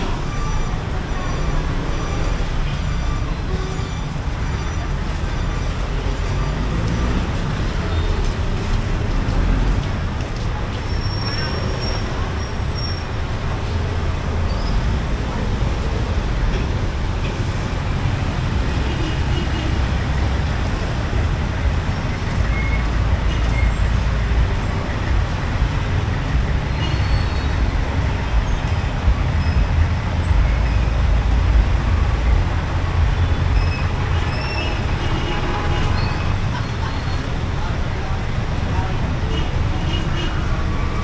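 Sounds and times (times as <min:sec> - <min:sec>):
street traffic rumble: 0:00.0 - 0:41.0.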